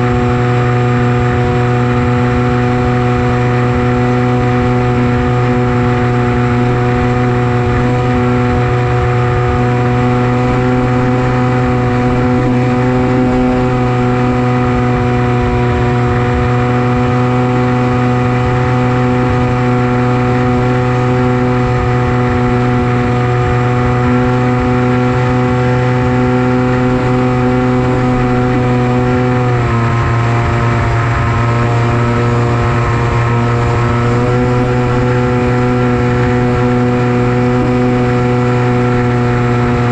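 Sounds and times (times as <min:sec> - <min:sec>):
electric motor propeller buzzing: 0:00.0 - 0:39.9.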